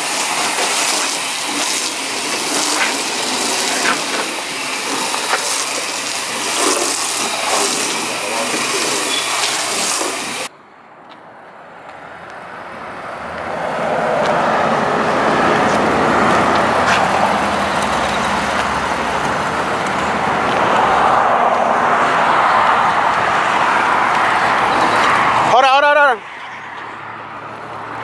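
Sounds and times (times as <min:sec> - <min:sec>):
vehicle noise: 0:00.0 - 0:28.0.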